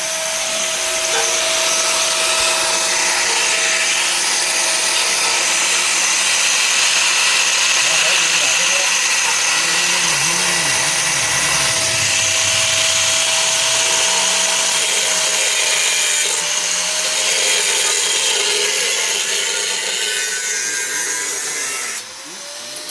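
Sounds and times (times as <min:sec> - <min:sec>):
power tool whining on metal: 0:00.0 - 0:22.9.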